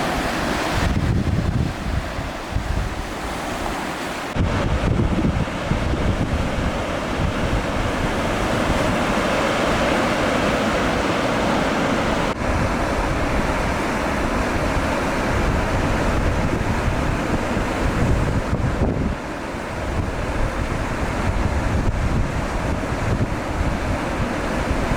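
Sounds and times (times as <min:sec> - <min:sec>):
surf washing onto beach: 0:00.0 - 0:24.9
wind buffeting microphone: 0:00.0 - 0:24.9.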